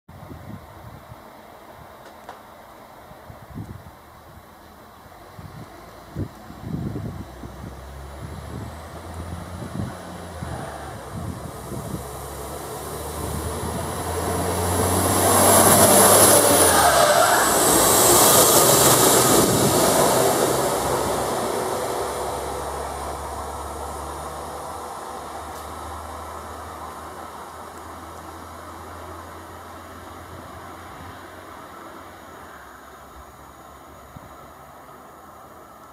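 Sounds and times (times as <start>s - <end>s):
low engine hum: 2.6s - 35.9s
train passing: 4.4s - 35.8s.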